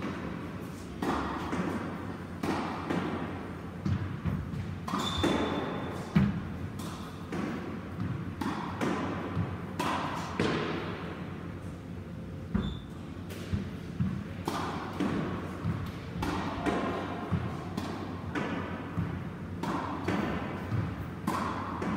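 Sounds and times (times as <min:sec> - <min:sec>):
racket striking squash ball: 0:00.0 - 0:11.2, 0:12.5 - 0:21.9.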